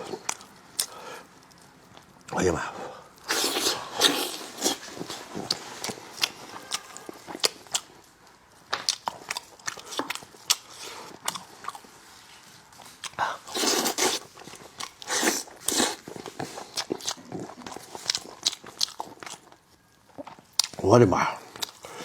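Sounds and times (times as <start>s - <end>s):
person chewing food: 0.0s - 2.4s, 3.0s - 20.8s, 21.4s - 22.0s.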